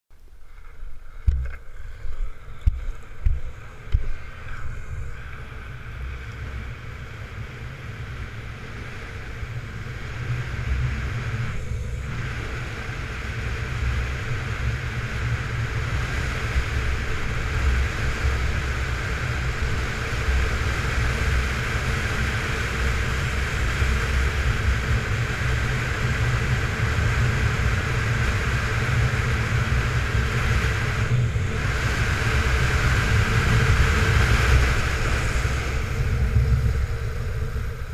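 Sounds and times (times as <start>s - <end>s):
longboard wheels rolling on asphalt: 0.1s - 37.9s
wind rush on microphone: 0.3s - 37.9s.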